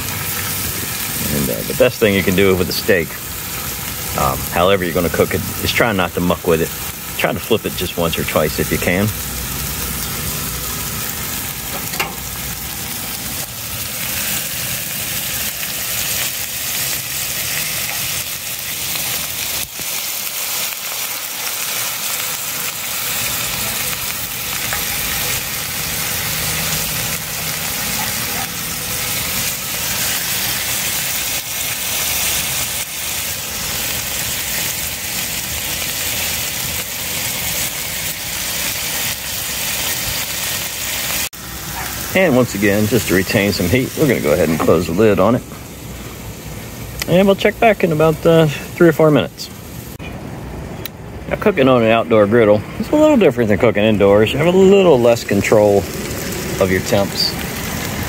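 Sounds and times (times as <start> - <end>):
steaks sizzling on a griddle: 0.0 - 49.0, 54.4 - 58.0.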